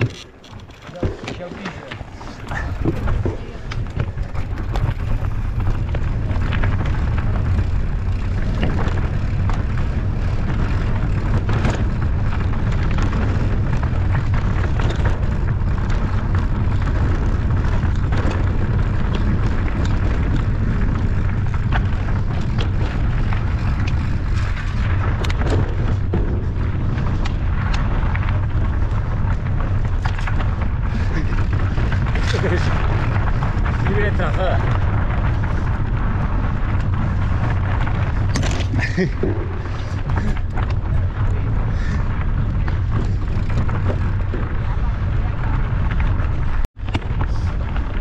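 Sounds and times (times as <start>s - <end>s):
bike knocks and rattles: 0.0s - 48.0s
wind rumbling on microphone: 0.0s - 48.0s.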